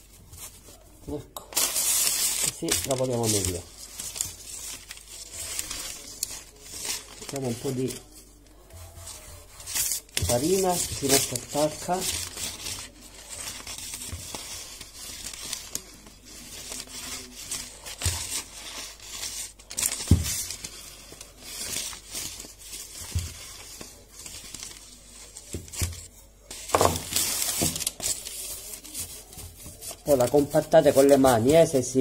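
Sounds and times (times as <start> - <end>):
baking paper crinkling: 0.0 - 32.0.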